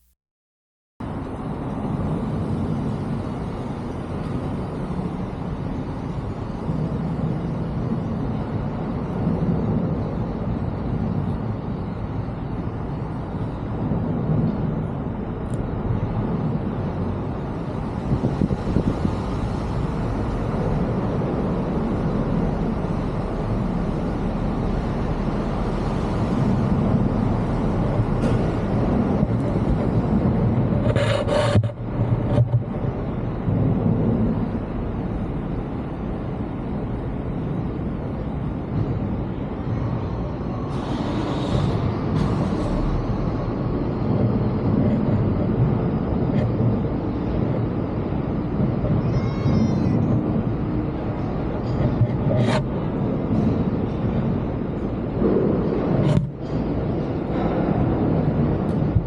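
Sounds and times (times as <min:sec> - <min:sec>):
low engine rumble with hiss: 0:01.0 - 0:59.0.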